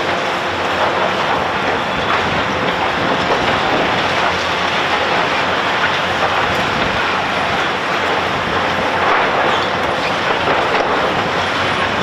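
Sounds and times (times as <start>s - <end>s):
diesel machinery din: 0.0s - 12.0s
concrete crunching and clattering: 0.7s - 12.0s.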